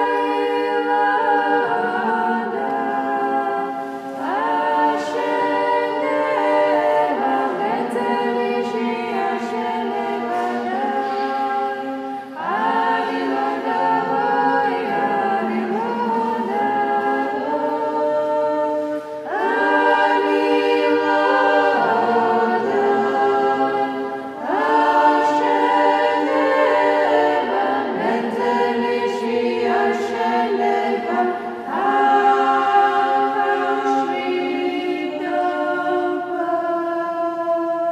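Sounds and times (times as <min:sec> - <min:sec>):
women's choir chanting a cappella: 0:00.0 - 0:37.9.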